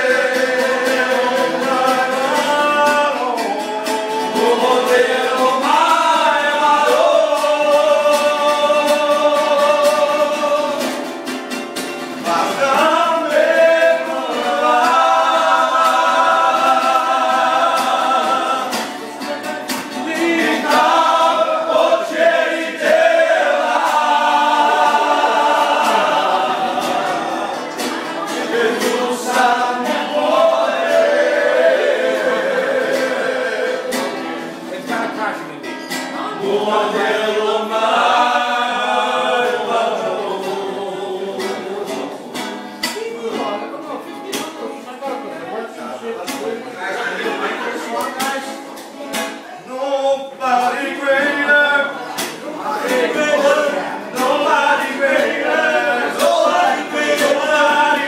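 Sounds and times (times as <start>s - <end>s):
men singing together: 0.0s - 11.4s, 12.0s - 34.9s, 36.2s - 43.5s, 49.6s - 58.0s
acoustic guitar strumming: 0.0s - 58.0s.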